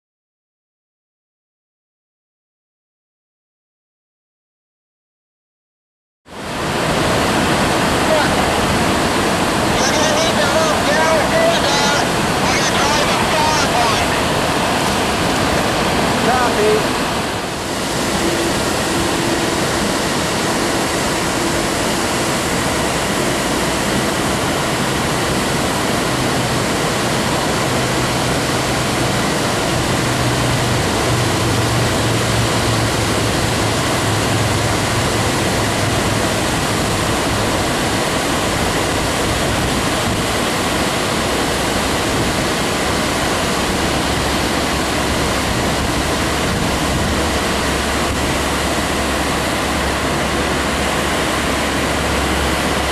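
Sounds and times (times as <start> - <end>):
water roaring over dam: 6.3 - 52.9.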